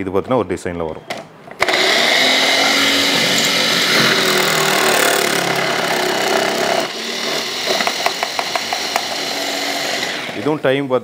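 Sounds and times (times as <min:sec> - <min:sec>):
mixer motor running: 0:01.6 - 0:10.6.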